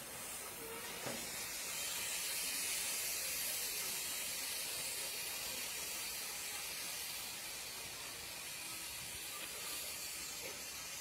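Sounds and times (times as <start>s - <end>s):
steam hissing from locomotive: 0.0s - 11.0s.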